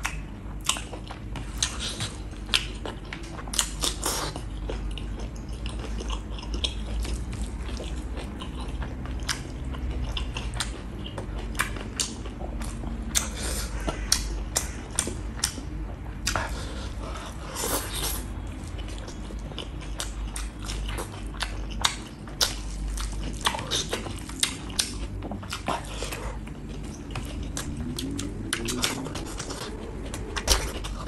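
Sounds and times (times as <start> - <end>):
man chewing food: 0.0 - 31.0.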